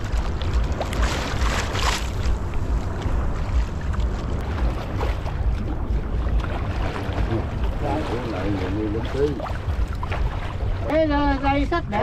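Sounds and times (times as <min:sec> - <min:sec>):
water splash: 0:00.0 - 0:12.0
water washing around boat: 0:00.0 - 0:12.0
wind rumbling on microphone: 0:00.0 - 0:12.0.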